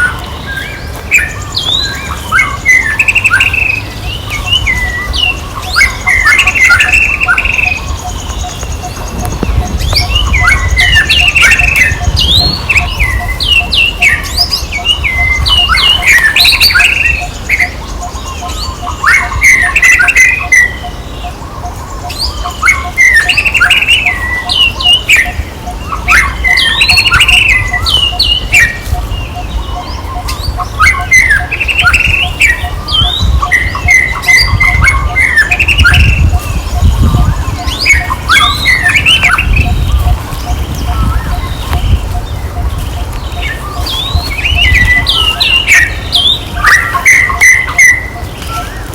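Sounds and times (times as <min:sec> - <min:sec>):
squeaky animal calls: 0:01.2 - 0:48.9.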